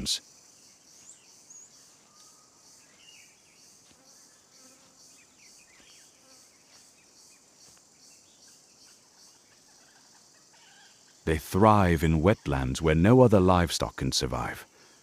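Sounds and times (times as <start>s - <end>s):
insects pulsing trill: 0.0s - 15.0s.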